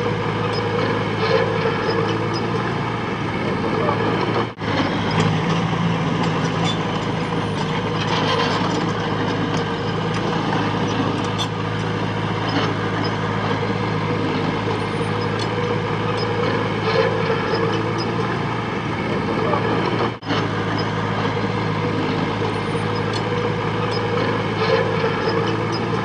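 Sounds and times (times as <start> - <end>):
heavy machinery diesel engine: 0.0 - 26.0.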